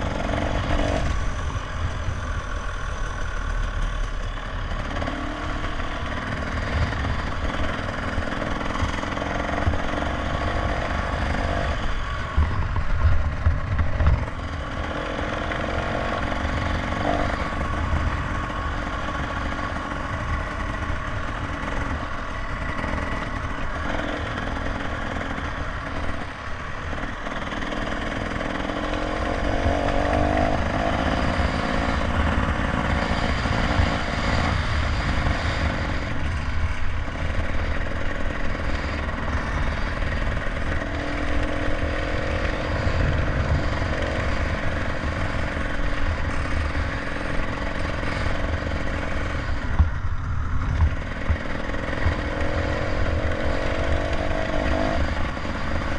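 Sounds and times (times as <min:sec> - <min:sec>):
motorcycle engine running: 0:00.0 - 0:55.9
wind noise: 0:04.7 - 0:55.9.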